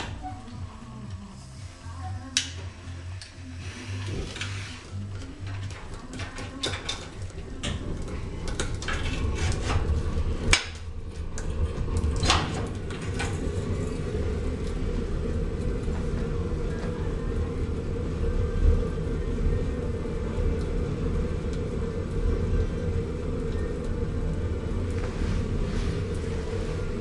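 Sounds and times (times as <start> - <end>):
low rumble of lit burner: 0.0 - 27.0.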